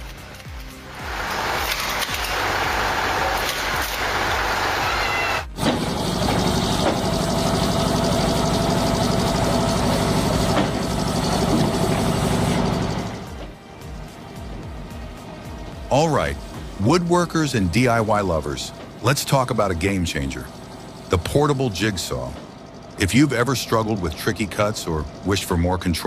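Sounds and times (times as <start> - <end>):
engine-driven machinery running: 0.0 - 26.0.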